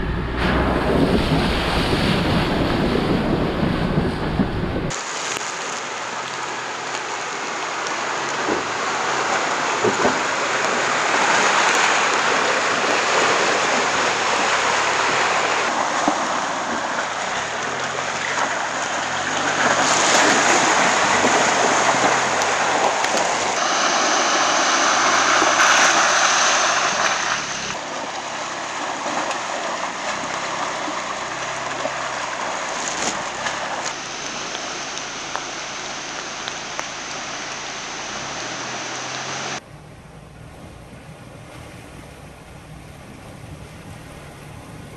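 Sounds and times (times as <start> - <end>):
muddy water sloshing: 0.4 - 44.9
faint car engine: 8.0 - 44.9.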